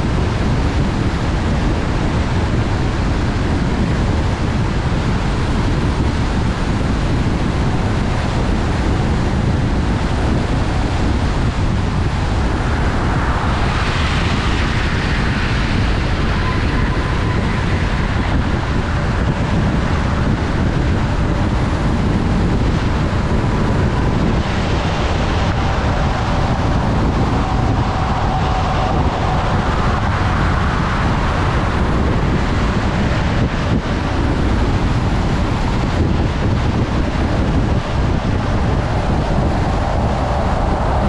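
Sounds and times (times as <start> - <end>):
faint whine: 0.0 - 41.0
tyre and road noise: 0.0 - 41.0
wind noise: 0.0 - 41.0.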